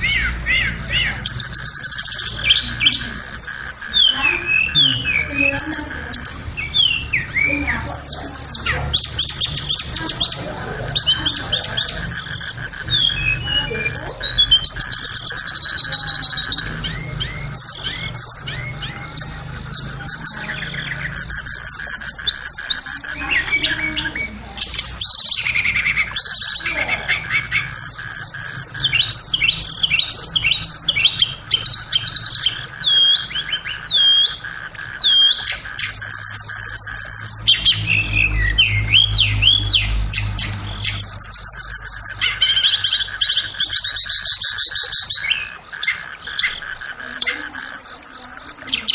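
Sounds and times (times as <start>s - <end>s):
bird song chirps and trills: 0.0s - 48.9s.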